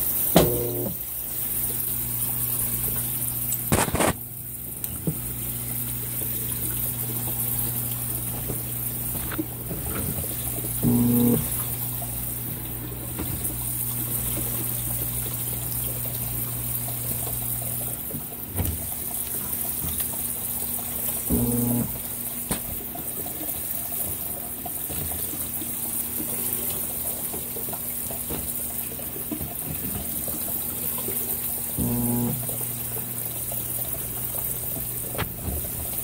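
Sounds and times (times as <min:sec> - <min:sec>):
washing machine motor hum: 0:00.0 - 0:36.0
water churning and splashing: 0:00.0 - 0:36.0.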